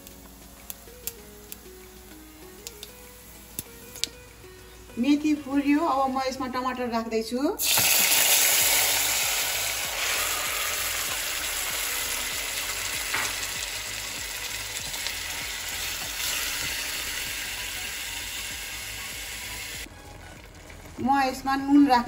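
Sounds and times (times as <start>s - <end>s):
tomatoes sizzling in hot oil: 0.0s - 4.4s, 7.6s - 22.0s.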